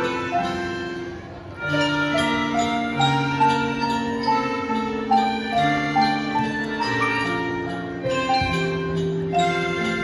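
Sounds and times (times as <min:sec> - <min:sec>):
bell-like mallet notes: 0:00.0 - 0:10.0
marching band music: 0:00.0 - 0:10.0.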